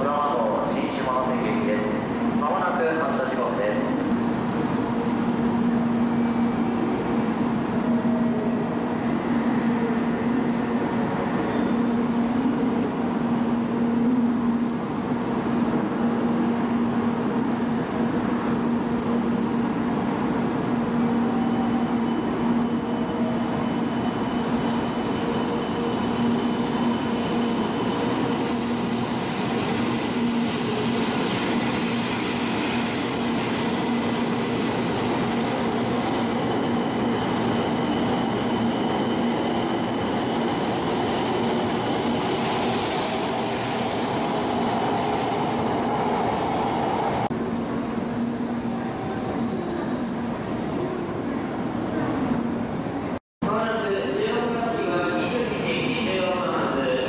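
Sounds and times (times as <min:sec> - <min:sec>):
train pulling out: 0:00.0 - 0:53.2
train humming at platform: 0:00.0 - 0:57.0.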